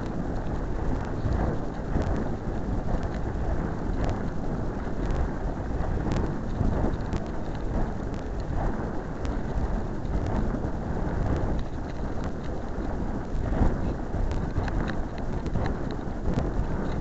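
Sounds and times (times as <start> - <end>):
light clicks and ticks: 0.0 - 17.0
wind rushing over microphone: 0.0 - 17.0.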